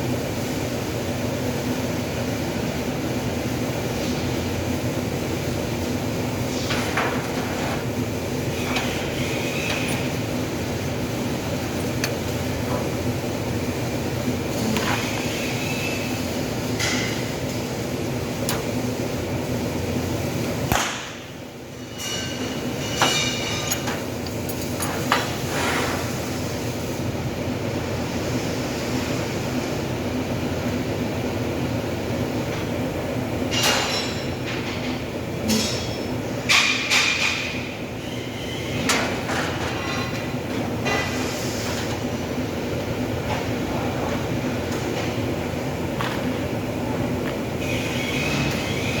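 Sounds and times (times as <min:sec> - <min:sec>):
steady workshop hum: 0:00.0 - 0:49.0.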